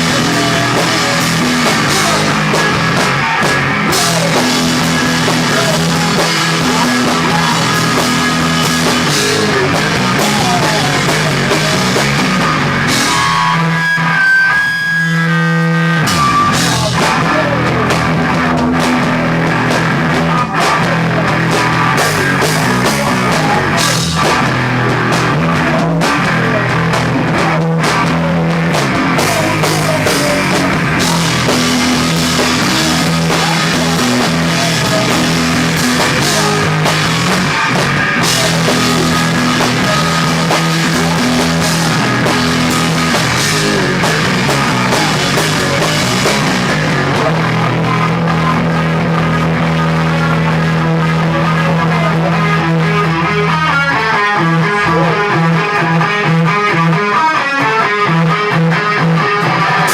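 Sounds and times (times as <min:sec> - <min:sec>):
drum kit: 0:00.0 - 0:59.9
electric guitar: 0:00.0 - 0:59.9
rock band playing live: 0:00.0 - 0:59.9.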